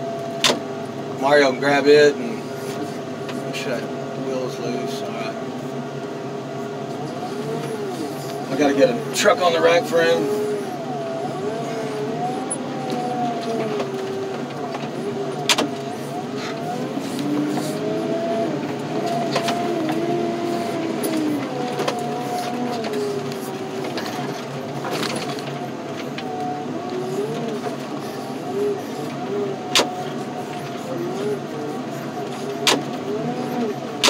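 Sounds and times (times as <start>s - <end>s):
heavy machinery running: 0.0s - 34.0s
machine whine: 0.0s - 34.0s.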